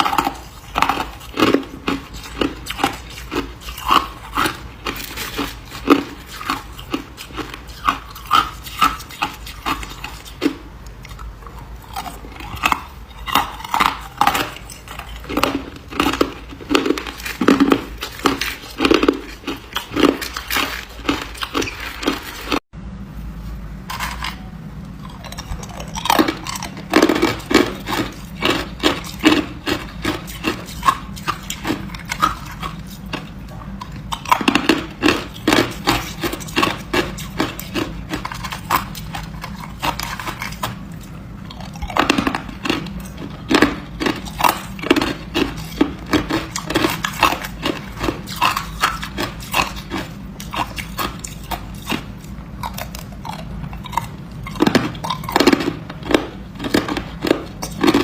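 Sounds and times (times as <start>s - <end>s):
ice being chewed: 0.0s - 22.6s, 23.9s - 58.0s.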